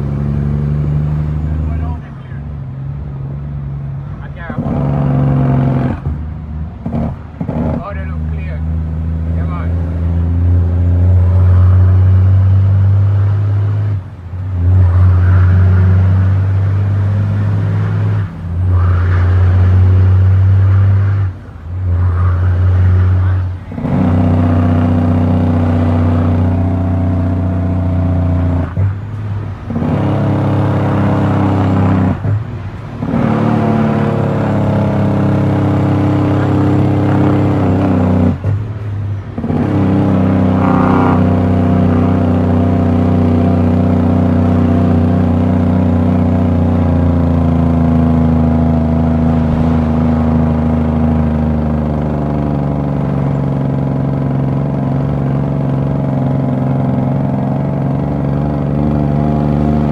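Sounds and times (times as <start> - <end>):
diesel truck engine pulling hard: 0.0 - 59.9.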